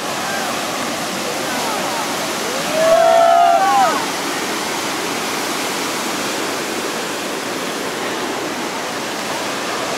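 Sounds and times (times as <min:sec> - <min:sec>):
ocean surf breaking: 0:00.0 - 0:09.9.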